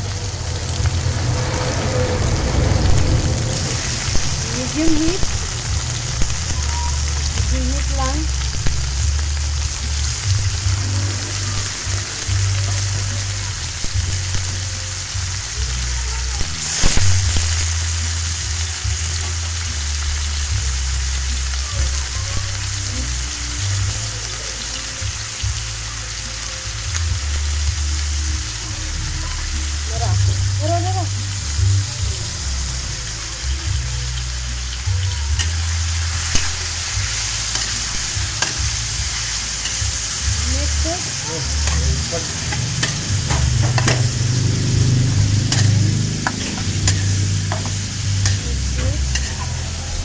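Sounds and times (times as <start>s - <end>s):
chicken sizzling in a wok: 0.0s - 50.0s.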